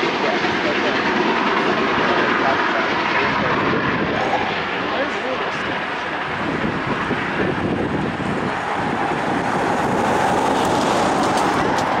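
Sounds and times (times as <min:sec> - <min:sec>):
steam train running on track: 0:00.0 - 0:12.0.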